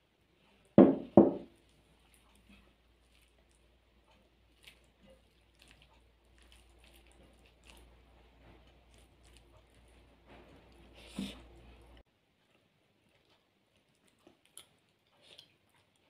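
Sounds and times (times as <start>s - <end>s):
fingers mixing food squishes: 1.5s - 16.0s.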